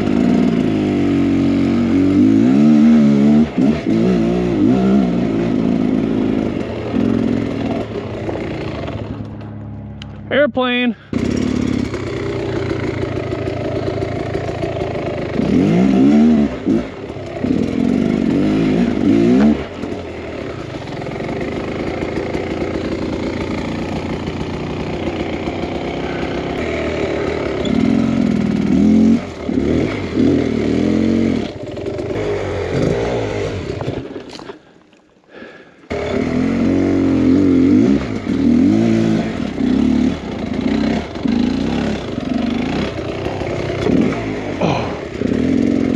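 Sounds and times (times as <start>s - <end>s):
dirt bike engine revving: 0.0s - 10.2s, 11.0s - 34.7s, 35.4s - 45.9s.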